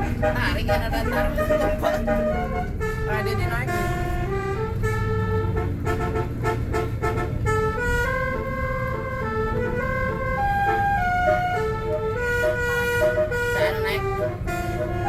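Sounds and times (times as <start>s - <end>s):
bus engine rumble: 0.0s - 15.0s
bus horn playing a tune: 0.0s - 15.0s.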